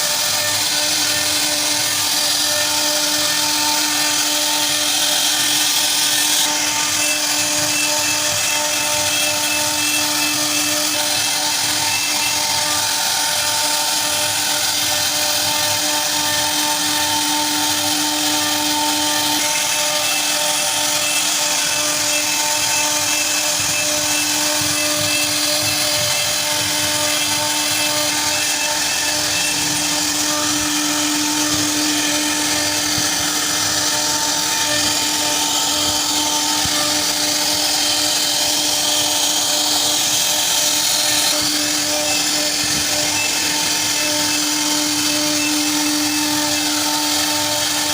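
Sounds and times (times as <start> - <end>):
router spindle whine: 0.0 - 47.9.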